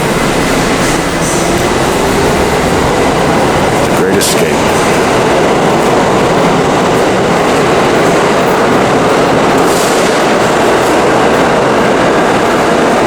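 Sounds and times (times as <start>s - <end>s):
subway train rumbling on rails: 0.0s - 13.0s.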